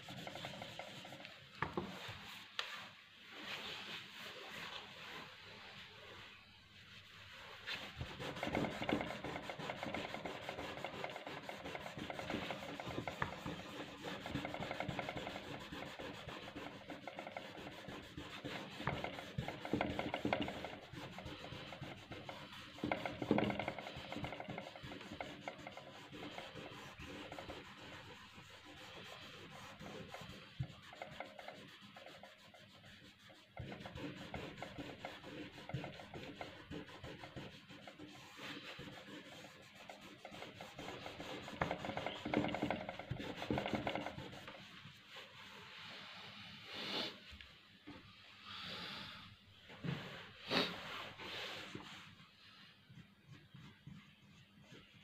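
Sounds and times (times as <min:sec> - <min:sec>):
fingertip rubbing on paper: 0:00.0 - 0:02.8, 0:07.0 - 0:45.7, 0:50.5 - 0:55.0.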